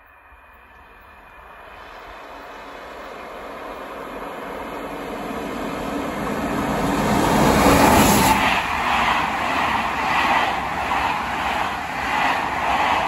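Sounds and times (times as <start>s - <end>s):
passenger train passing: 0.0s - 13.0s
train wheels rolling on rails: 0.0s - 13.0s.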